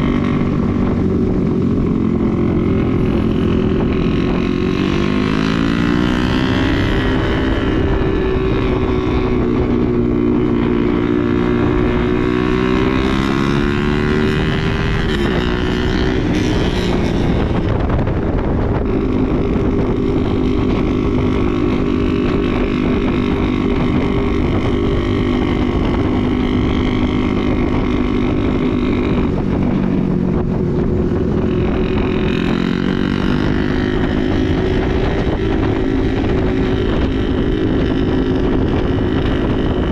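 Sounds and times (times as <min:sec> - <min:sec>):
motorcycle engine running: 0:00.0 - 0:39.9
wind rumbling on microphone: 0:00.0 - 0:39.9.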